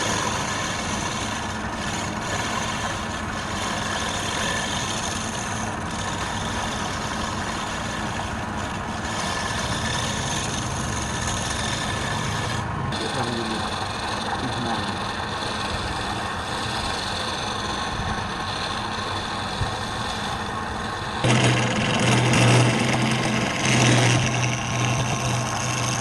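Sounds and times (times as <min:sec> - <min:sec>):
woodturning lathe running: 0:00.0 - 0:26.0.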